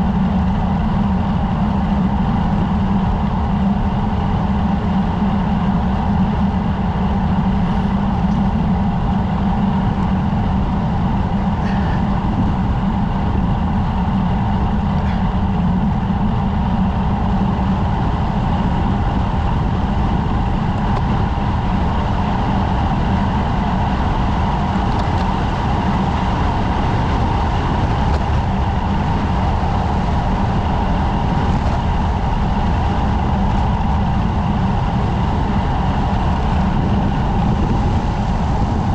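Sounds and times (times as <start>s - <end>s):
road rumble: 0.0s - 38.9s
wind noise: 0.0s - 38.9s.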